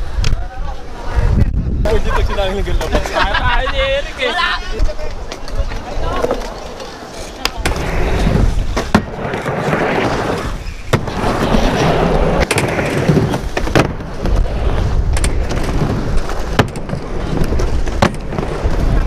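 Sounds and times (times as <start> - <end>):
skateboards rolling: 0.0 - 19.0
skateboards clacking: 2.2 - 19.0.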